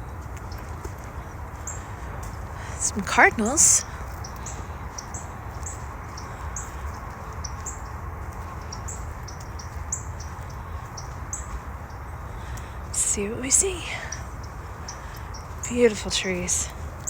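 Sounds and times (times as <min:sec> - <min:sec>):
bird chip calls: 0:00.5 - 0:17.0.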